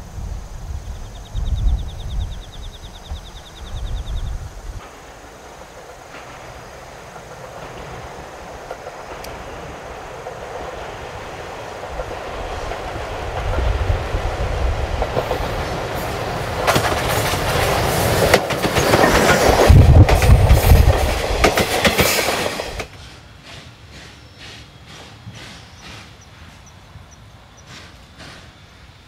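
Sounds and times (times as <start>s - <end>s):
steam locomotive passing: 0.0s - 29.0s
train wheels clacking over rail joints: 4.7s - 29.0s.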